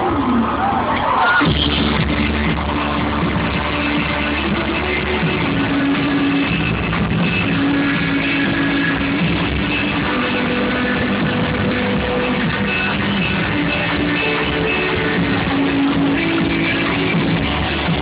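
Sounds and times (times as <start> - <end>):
live rock band music: 1.3 - 18.0.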